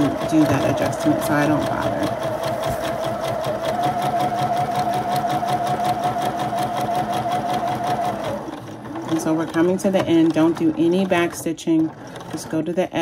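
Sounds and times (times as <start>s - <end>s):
sewing machine motor whine: 0.0s - 12.8s.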